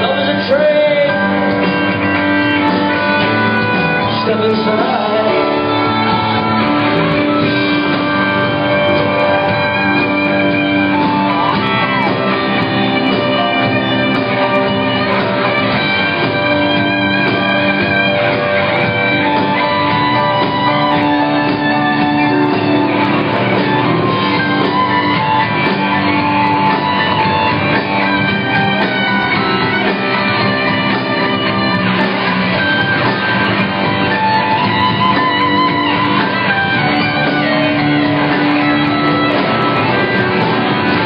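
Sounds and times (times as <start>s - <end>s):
electric guitar: 0.0s - 41.0s
live rock band playing: 0.0s - 41.0s.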